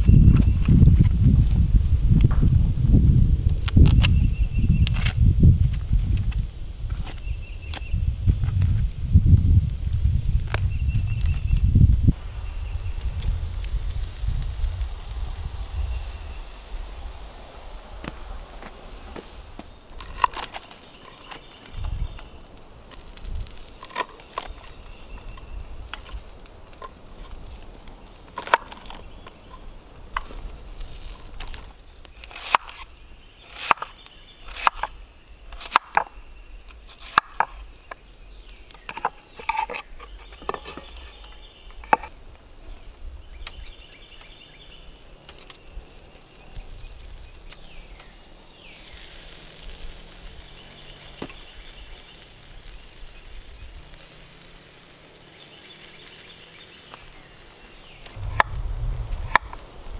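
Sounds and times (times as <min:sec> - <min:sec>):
meat sizzling on a grill: 0:06.2 - 0:59.9.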